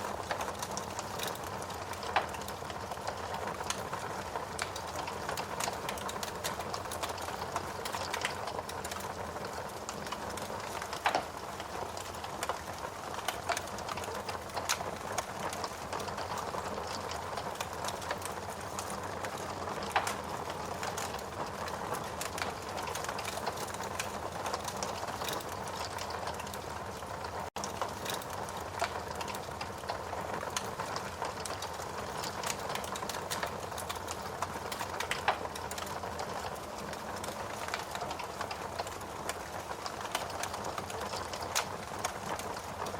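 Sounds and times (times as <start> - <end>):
burning logs popping: 0.0 - 42.9
fire hissing and crackling: 0.0 - 42.9.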